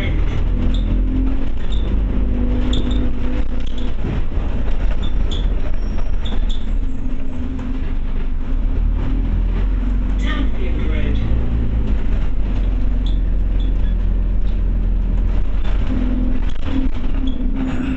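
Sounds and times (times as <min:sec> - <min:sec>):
bodywork rattles and clicks: 0:00.0 - 0:17.9
bus diesel engine rumble: 0:00.0 - 0:17.9.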